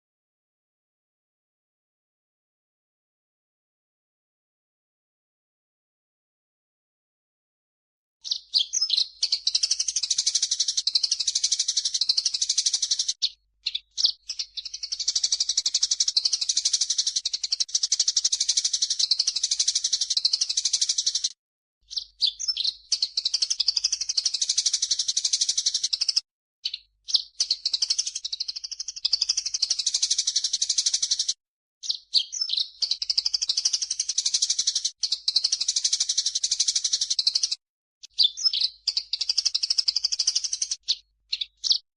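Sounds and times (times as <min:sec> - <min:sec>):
birds chirping and trilling: 0:08.2 - 0:41.9.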